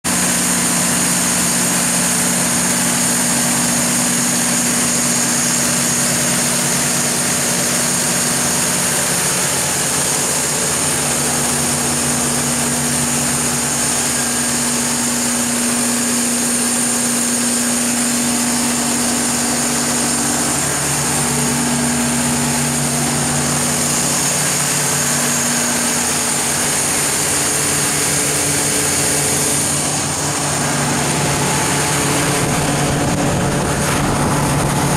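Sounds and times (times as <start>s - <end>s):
diesel generator humming: 0.1s - 34.9s.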